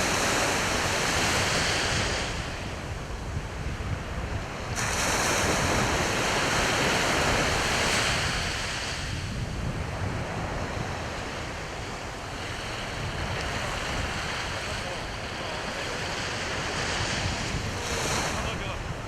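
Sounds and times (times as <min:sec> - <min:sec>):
sea waves washing on shore: 0:00.0 - 0:19.0
wind rumbling on microphone: 0:00.0 - 0:19.0.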